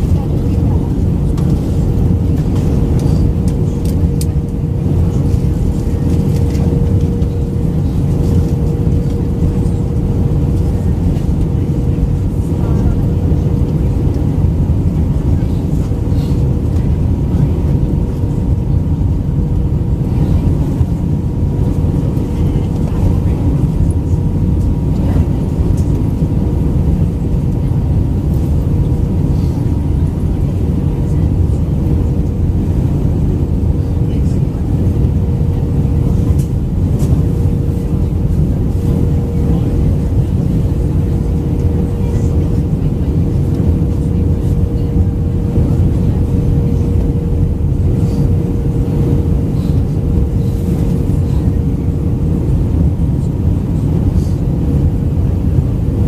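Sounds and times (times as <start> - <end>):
airplane cabin rumble: 0.0 - 56.0
steady hum: 0.0 - 56.0.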